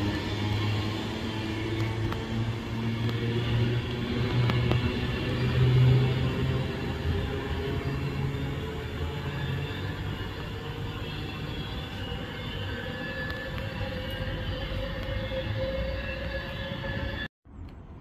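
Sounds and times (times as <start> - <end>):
electric train running: 0.0 - 17.3
wheel squeal: 0.0 - 17.3.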